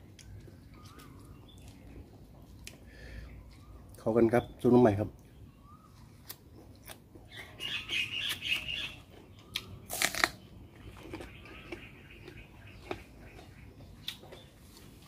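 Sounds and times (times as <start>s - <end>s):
crunchy chewing: 0.0s - 4.0s, 5.9s - 15.0s.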